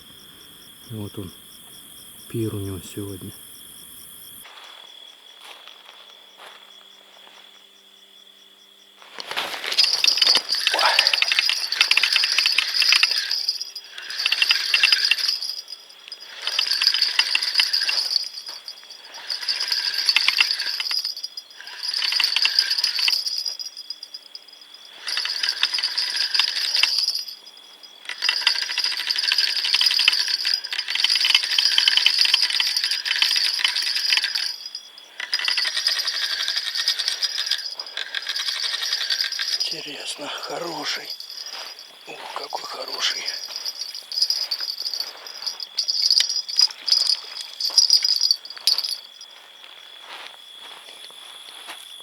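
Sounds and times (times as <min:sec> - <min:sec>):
insect trilling high-pitched: 0:00.0 - 0:04.5, 0:09.2 - 0:50.8.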